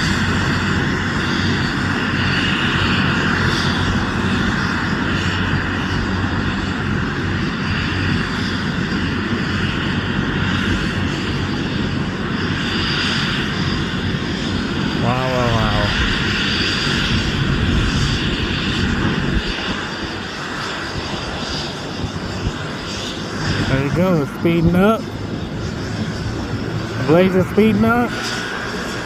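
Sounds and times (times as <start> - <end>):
helicopter turbine and rotor: 0.0 - 29.0.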